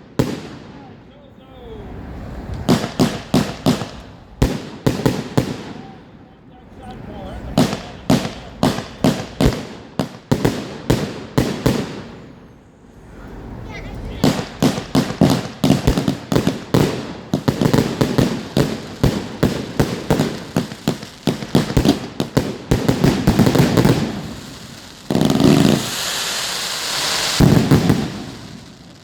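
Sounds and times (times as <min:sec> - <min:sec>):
firework bangs: 0:00.0 - 0:29.0
firework crackling hiss: 0:01.6 - 0:06.0, 0:06.8 - 0:29.0.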